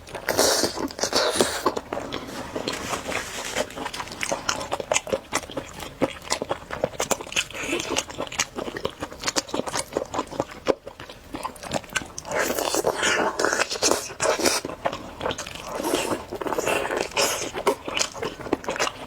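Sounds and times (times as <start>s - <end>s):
person chewing and biting: 0.0s - 19.0s.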